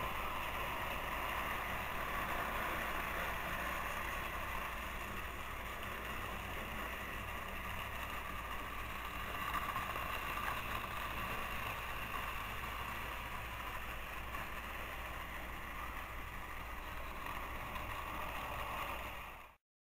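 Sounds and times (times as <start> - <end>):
toy train motors whirring: 0.0 - 19.6.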